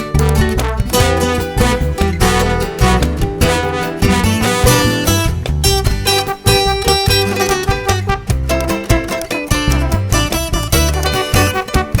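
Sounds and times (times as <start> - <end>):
upbeat music with plucked strings: 0.0 - 12.0.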